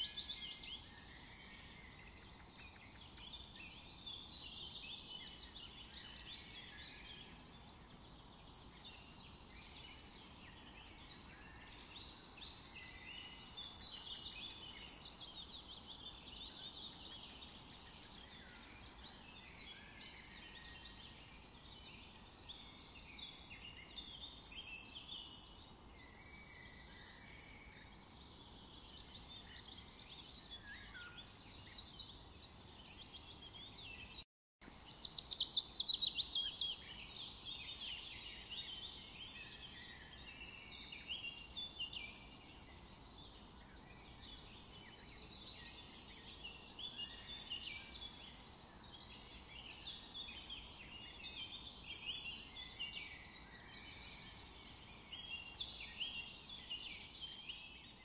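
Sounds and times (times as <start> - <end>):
faint steady hiss: 0.0 - 58.0
small birds singing and chirping: 0.0 - 58.0.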